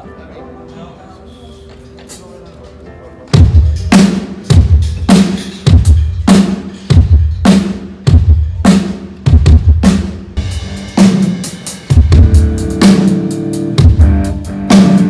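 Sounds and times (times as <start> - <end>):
drum kit steady groove: 1.5 - 15.0.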